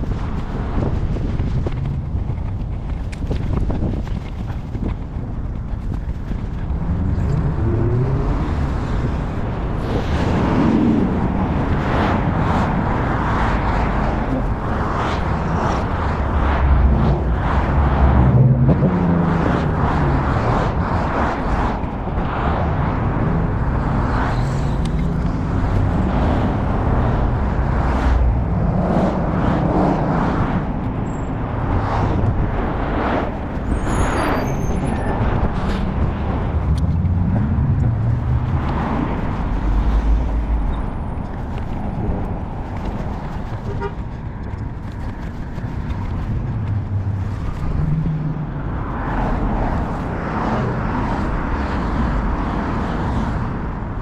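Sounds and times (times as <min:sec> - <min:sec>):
cars passing: 0:00.0 - 0:54.0
road noise rumble: 0:00.0 - 0:54.0.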